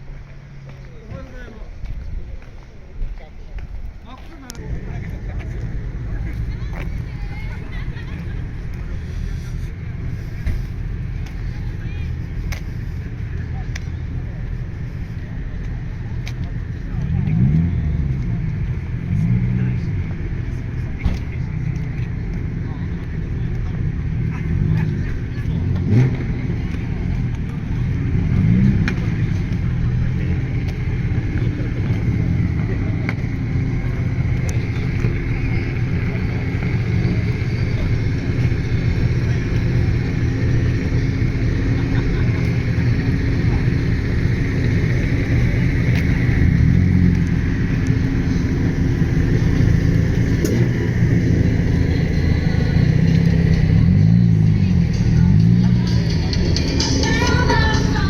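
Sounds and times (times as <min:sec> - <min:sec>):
car engine revving: 0:04.2 - 0:58.0.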